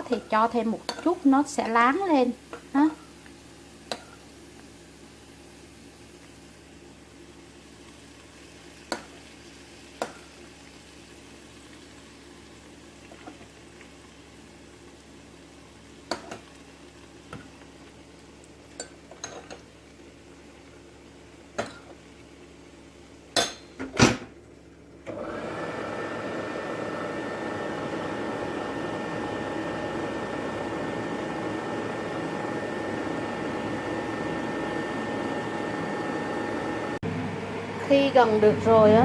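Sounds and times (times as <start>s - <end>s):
air fryer fan whirring: 0.0s - 39.0s.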